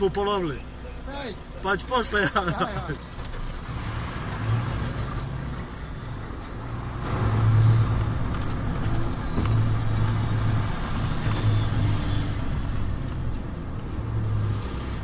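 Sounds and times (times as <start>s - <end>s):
road noise: 0.0s - 15.0s
truck engine hum: 0.0s - 15.0s.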